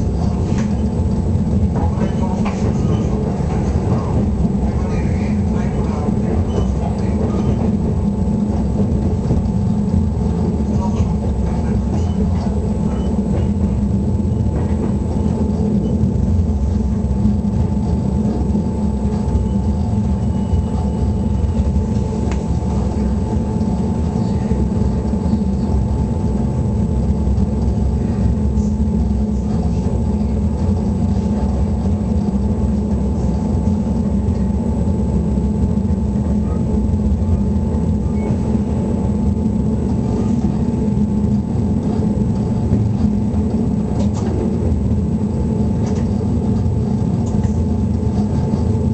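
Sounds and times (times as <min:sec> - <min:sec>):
electric train rumbling: 0:00.0 - 0:48.9.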